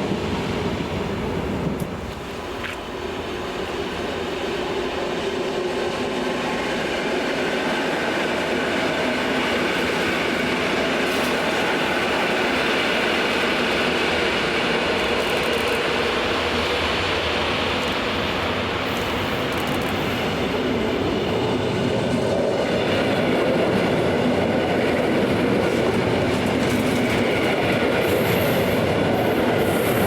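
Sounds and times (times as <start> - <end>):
electric train rail rumble: 0.0 - 30.0.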